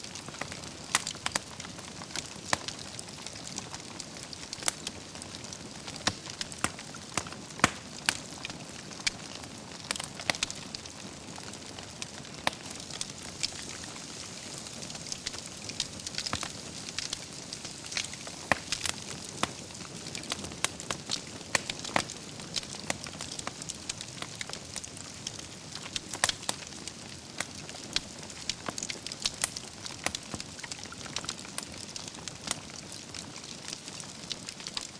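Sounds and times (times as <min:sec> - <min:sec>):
fire crackling and popping: 0:00.0 - 0:34.9
soft fire hiss: 0:00.0 - 0:34.9.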